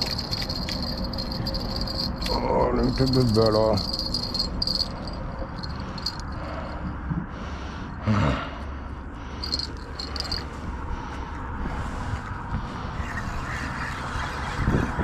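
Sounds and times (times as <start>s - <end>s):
wind rumble: 0.0s - 8.0s, 9.0s - 15.0s
traffic on bridge: 0.0s - 15.0s.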